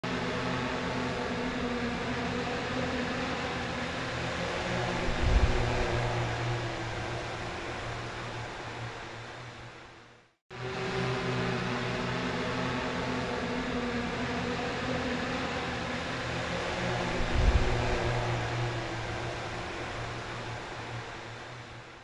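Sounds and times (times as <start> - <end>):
drone propellers humming: 0.1 - 9.3, 10.7 - 21.6.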